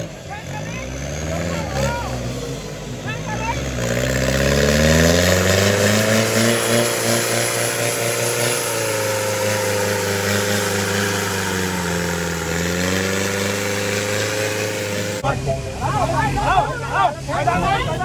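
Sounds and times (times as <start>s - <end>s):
diesel engine revving hard: 0.0s - 18.0s
wheels churning in mud: 0.0s - 18.0s.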